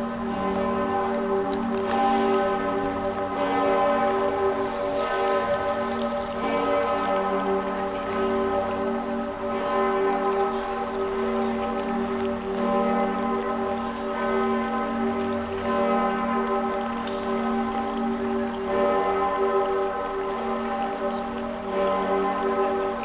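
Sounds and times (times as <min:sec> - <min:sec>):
large bronze bell ringing: 0:00.0 - 0:23.0.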